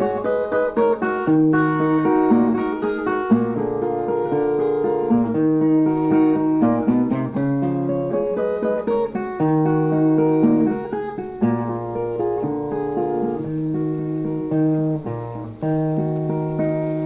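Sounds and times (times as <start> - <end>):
plucked guitar-like viola melody: 0.0 - 17.0
strummed chords: 0.0 - 17.0.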